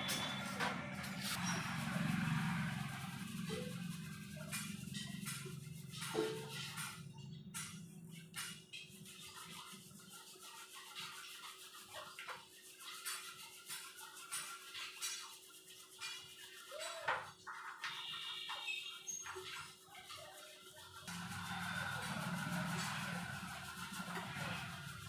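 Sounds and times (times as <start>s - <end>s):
metal burner parts scrubbed: 0.0s - 16.6s, 17.3s - 25.0s.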